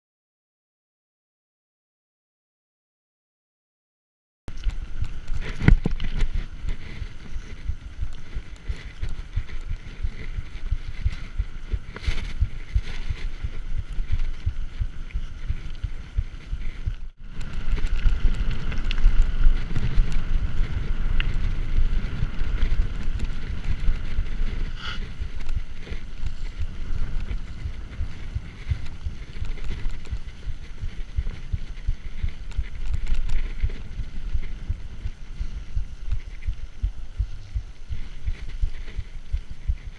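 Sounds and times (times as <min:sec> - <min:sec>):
bike rattling: 0:04.5 - 0:39.9
bike tyres rumbling on dirt: 0:04.5 - 0:39.9
wind on microphone: 0:04.5 - 0:39.9.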